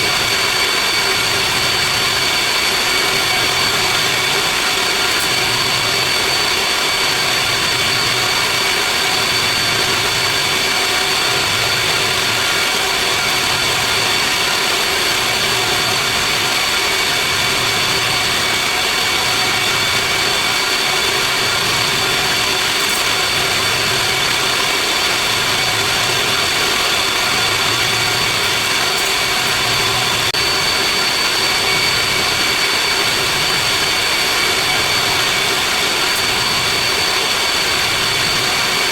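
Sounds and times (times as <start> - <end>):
high-pitched machine whines: 0.0 - 38.9
machinery drone: 0.0 - 38.9.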